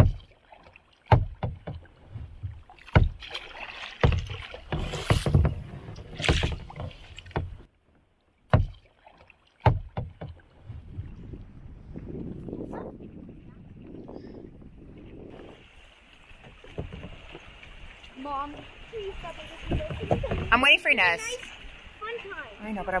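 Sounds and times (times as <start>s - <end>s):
paddle splashing water: 0.0s - 23.0s
water swishing: 0.0s - 23.0s.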